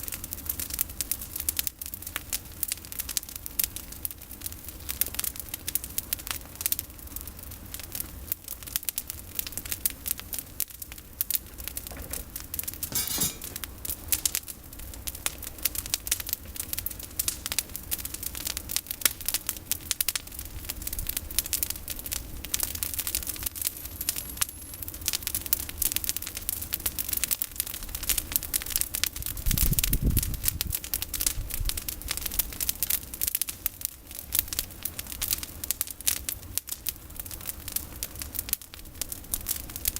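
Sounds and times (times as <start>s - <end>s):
campfire crackling: 0.1s - 29.2s, 30.8s - 39.9s.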